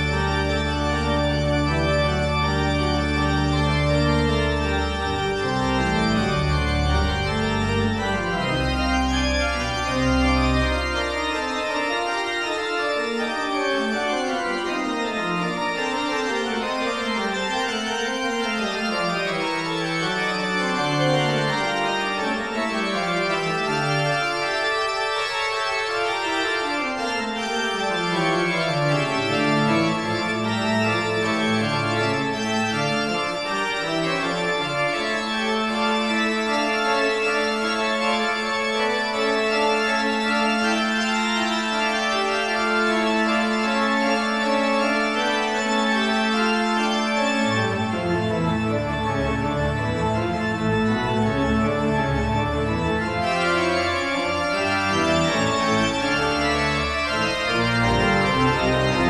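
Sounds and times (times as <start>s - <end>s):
organ music with sustained chords: 0.0s - 59.0s.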